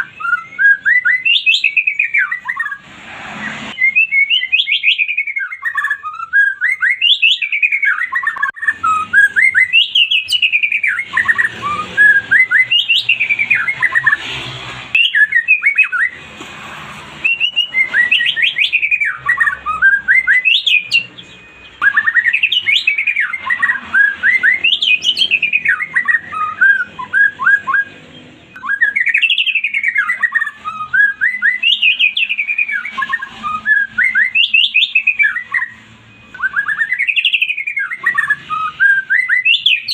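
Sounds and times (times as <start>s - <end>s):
songbird whistling and chattering: 0.0s - 2.8s, 3.4s - 16.2s, 17.1s - 39.9s.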